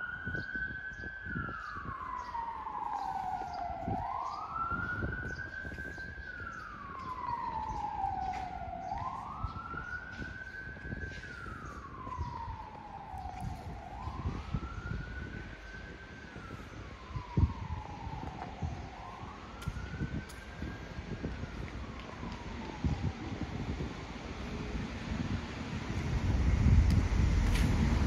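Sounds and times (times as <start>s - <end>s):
wailing siren: 0.0s - 28.0s.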